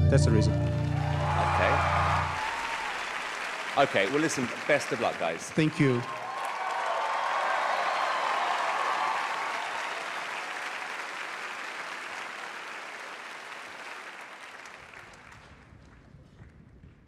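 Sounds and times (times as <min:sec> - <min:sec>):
audience applauding: 0:00.3 - 0:15.9.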